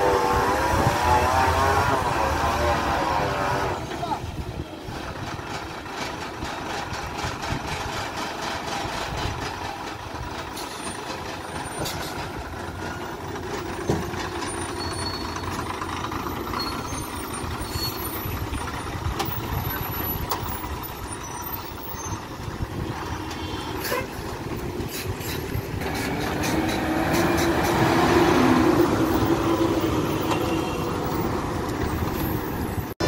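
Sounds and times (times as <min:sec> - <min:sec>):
lorry diesel engine under load: 0:00.0 - 0:33.0.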